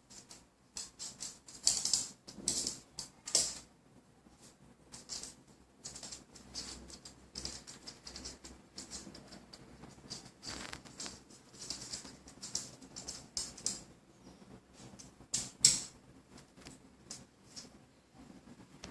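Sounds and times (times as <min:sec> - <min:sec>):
puppy claws tapping and scratching: 0:00.0 - 0:03.7, 0:04.8 - 0:14.0, 0:14.8 - 0:17.8.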